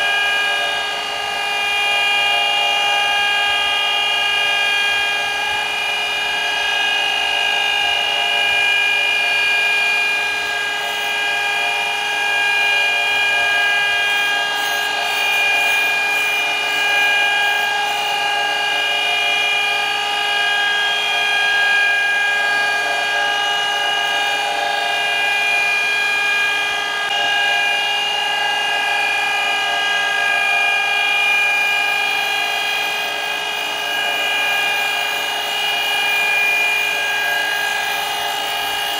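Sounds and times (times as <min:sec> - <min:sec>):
surface grinder whining: 0:00.0 - 0:38.9.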